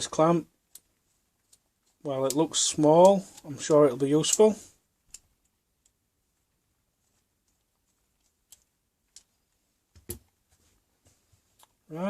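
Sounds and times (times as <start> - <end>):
faint clicks of parts handled: 0.5 - 11.8.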